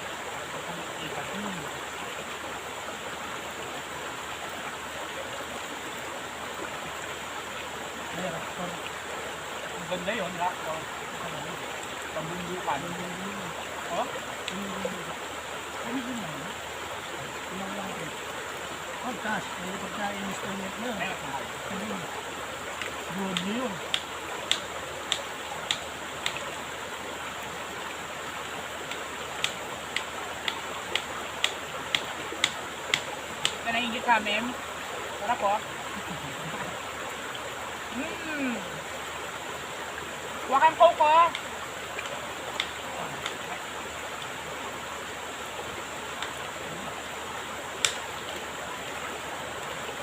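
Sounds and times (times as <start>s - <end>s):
stream water flowing: 0.0s - 50.0s.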